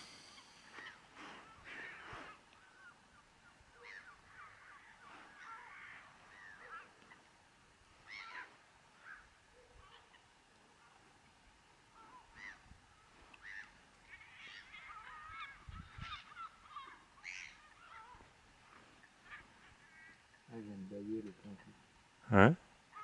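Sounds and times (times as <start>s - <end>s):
gulls calling faintly: 0.0s - 23.0s.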